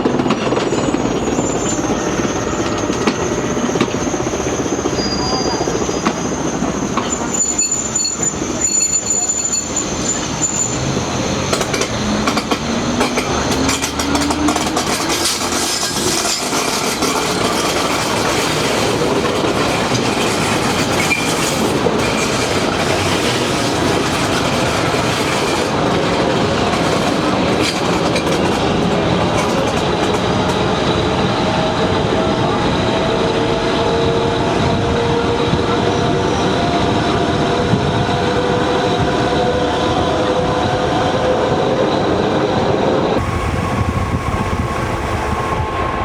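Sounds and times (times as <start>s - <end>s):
train running on rails: 0.0s - 46.0s.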